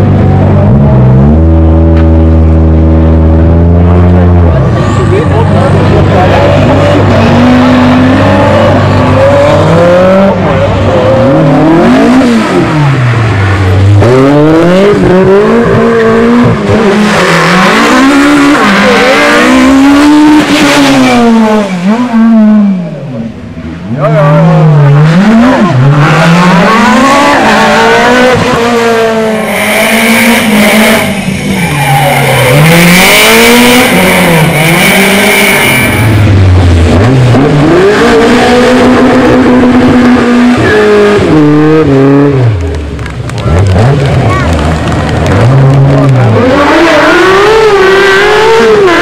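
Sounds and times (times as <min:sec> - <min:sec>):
rally car engine revving: 0:00.0 - 0:49.0.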